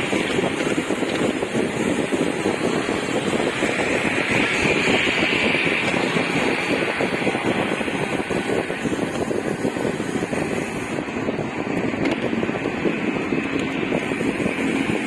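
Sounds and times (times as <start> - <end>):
vehicle and road noise: 0.0 - 15.0
wind rushing over microphone: 0.0 - 15.0.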